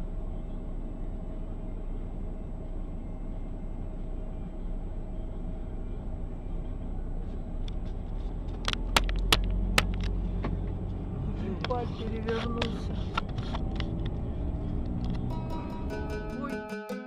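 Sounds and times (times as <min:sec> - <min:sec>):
car engine rumble: 0:00.0 - 0:16.6
road noise: 0:00.0 - 0:16.6.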